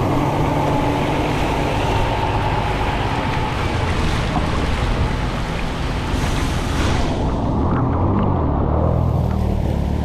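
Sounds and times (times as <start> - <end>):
rushing wind and water: 0.0 - 10.0.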